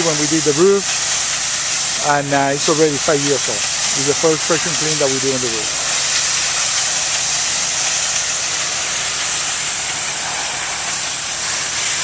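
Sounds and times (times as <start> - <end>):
pressure washer spray on tiles: 0.0 - 12.0.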